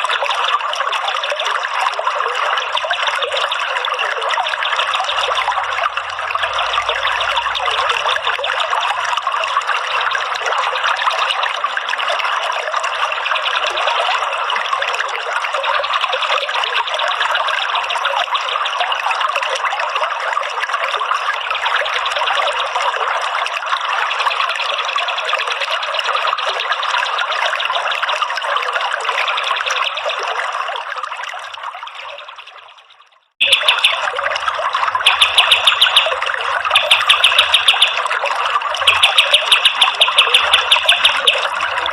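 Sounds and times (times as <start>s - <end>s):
running water trickling: 0.0s - 41.9s.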